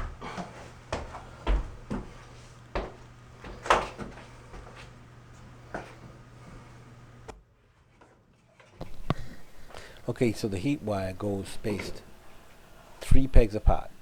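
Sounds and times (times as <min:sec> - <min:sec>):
steady low hum: 0:00.0 - 0:07.4, 0:08.8 - 0:14.0.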